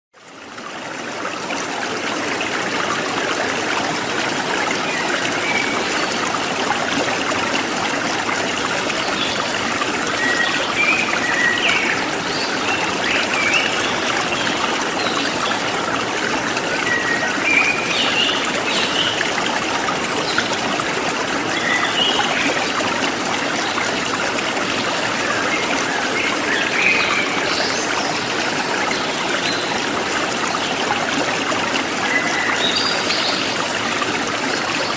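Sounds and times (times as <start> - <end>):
stream flowing: 0.2 - 34.9.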